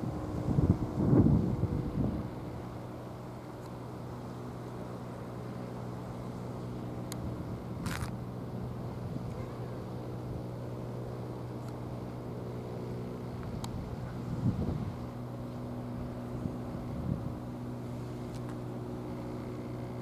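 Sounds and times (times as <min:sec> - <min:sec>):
engine idling hum: 0:00.0 - 0:20.0.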